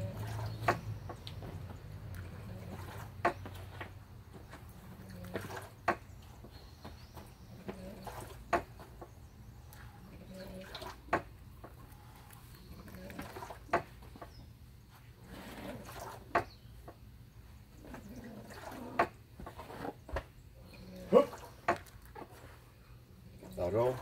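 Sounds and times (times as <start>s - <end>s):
movement and breath sounds: 0.0s - 23.9s.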